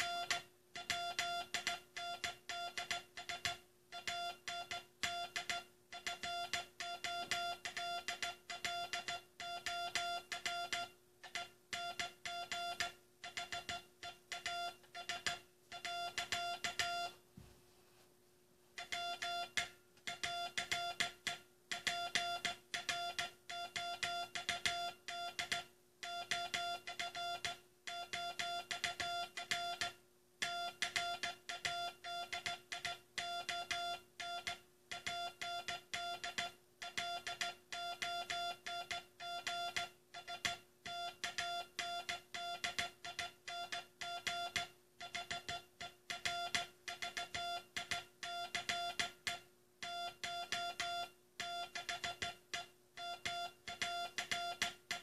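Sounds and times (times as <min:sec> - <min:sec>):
morse code tone: 0:00.0 - 0:17.2, 0:18.8 - 0:55.0
faint steady hum: 0:00.0 - 0:55.0.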